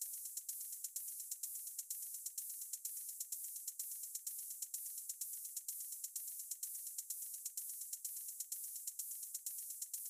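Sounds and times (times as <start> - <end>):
hissy shaker percussion beat: 0.0 - 10.0.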